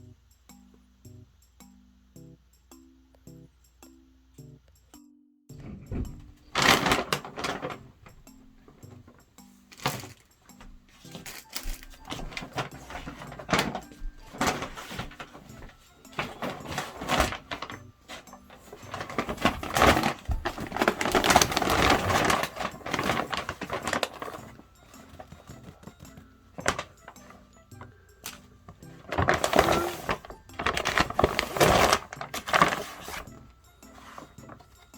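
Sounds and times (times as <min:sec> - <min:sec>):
paper bag rustling and crinkling: 0:05.6 - 0:34.9.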